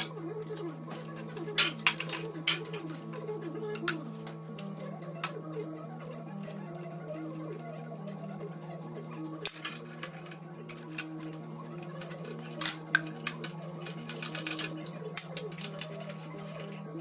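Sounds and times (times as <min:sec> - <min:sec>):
background music melody: 0:00.0 - 0:17.0.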